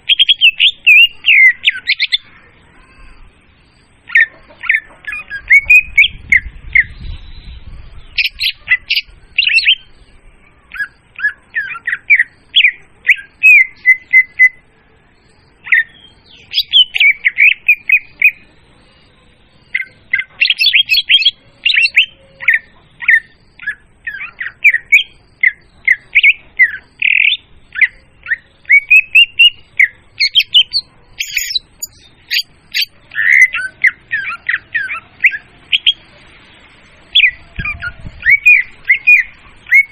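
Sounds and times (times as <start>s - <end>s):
bird singing chirps and whistles: 0.0s - 36.1s, 37.1s - 39.9s.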